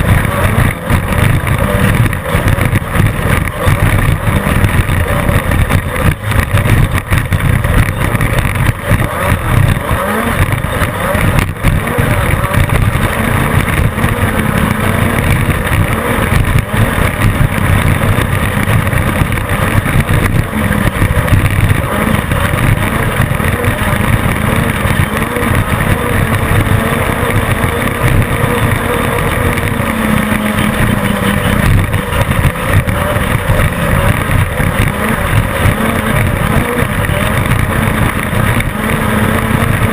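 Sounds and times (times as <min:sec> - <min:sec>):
chassis rattle and rumble: 0:00.0 - 0:39.9
race car engine under load: 0:00.0 - 0:39.9.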